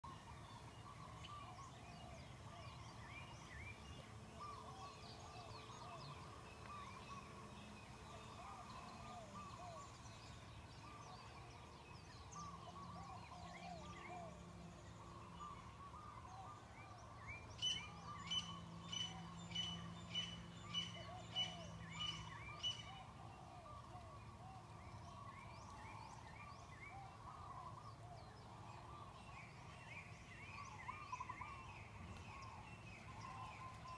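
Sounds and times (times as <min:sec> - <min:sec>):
birds chirping faintly: 0:00.0 - 0:33.9.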